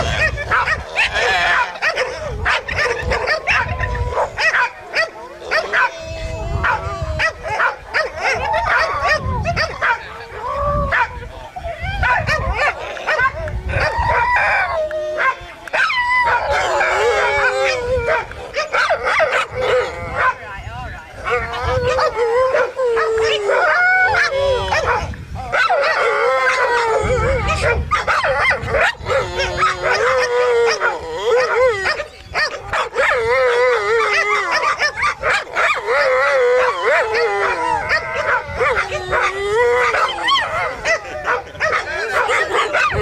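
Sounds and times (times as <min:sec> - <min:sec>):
dogs yelping and whining: 0:00.0 - 0:20.3, 0:21.2 - 0:43.0.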